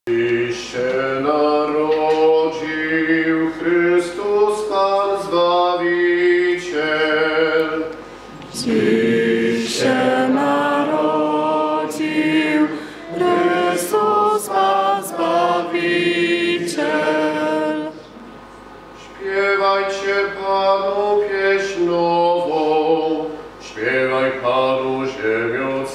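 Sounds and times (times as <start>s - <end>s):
voices singing liturgical chant: 0.1s - 18.2s, 19.0s - 25.9s.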